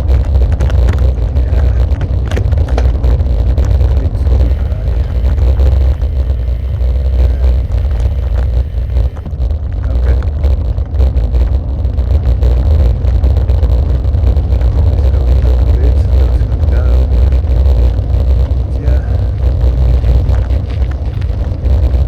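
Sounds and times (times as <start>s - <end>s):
rattling vibration: 0.0s - 22.0s
vehicle rumble on rough road: 0.0s - 22.0s.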